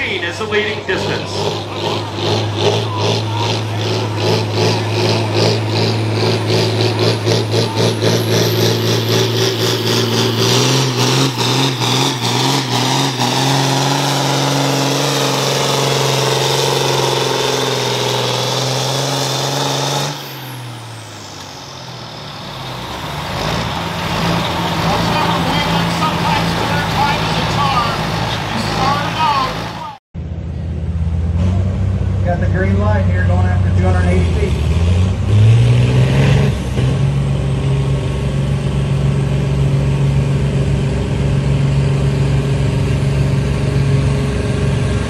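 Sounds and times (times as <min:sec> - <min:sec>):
diesel tractor engine pulling hard: 0:00.0 - 0:45.0.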